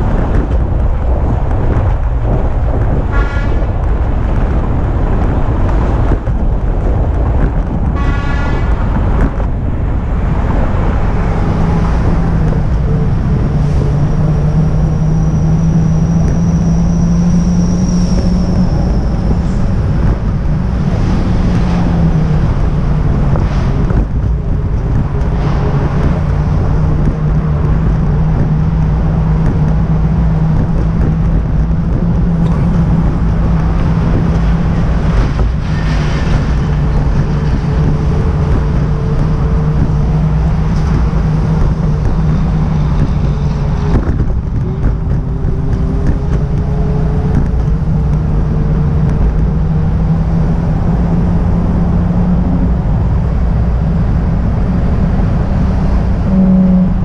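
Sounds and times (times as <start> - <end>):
road traffic passing: 0.0 - 57.0
wind rumbling on microphone: 0.0 - 57.0.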